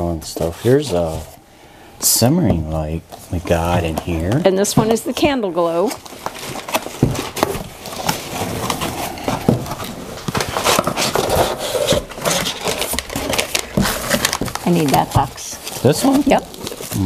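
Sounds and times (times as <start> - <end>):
cardboard boxes rubbing and scraping: 0.3 - 1.4, 3.1 - 17.0.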